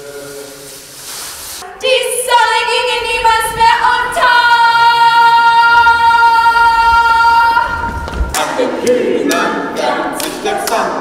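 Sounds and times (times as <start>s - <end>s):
women singing a cappella: 1.6s - 11.0s.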